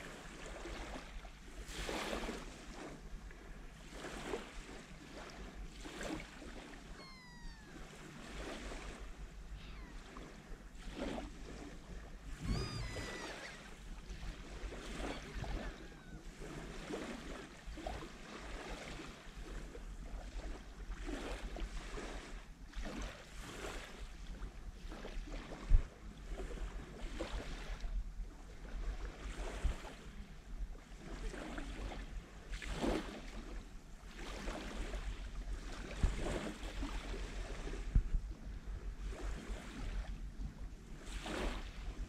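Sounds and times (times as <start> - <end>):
small waves lapping on beach: 0.0 - 42.0
wind rumble on microphone: 7.0 - 42.0.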